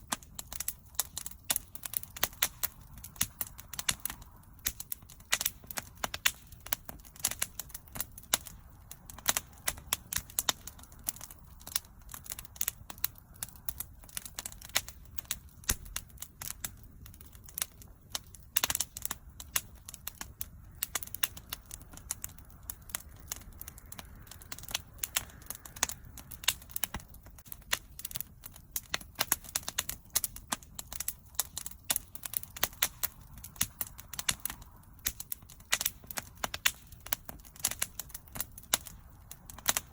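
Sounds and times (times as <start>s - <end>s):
low rumble of fire: 0.0s - 39.9s
wood fire crackling: 0.0s - 39.9s.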